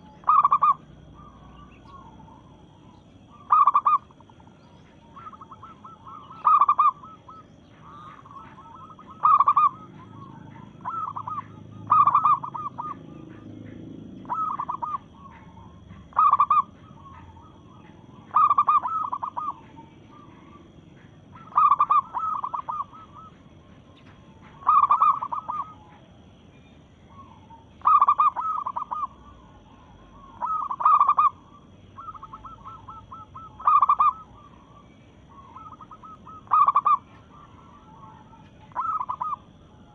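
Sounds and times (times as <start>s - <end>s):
dove cooing: 0.0s - 26.2s, 27.0s - 39.9s.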